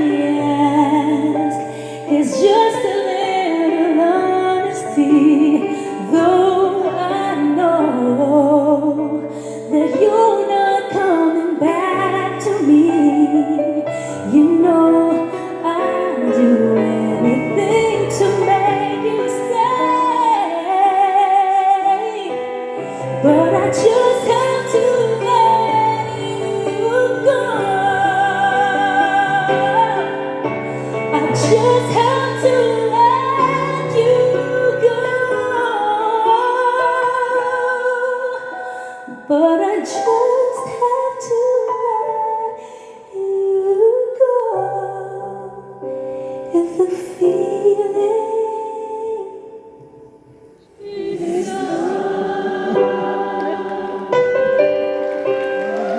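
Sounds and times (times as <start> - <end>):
woman singing ballad with vibrato: 0.0 - 45.8, 46.5 - 50.1.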